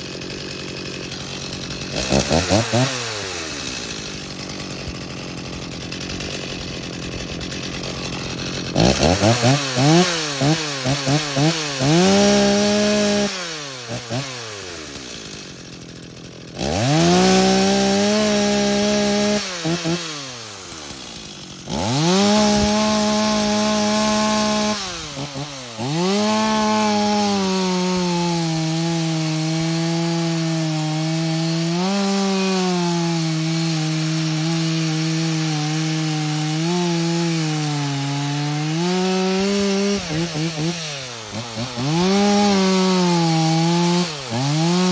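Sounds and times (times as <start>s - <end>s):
chainsaw cutting wood: 0.0s - 44.9s
chainsaw revving: 0.0s - 44.9s.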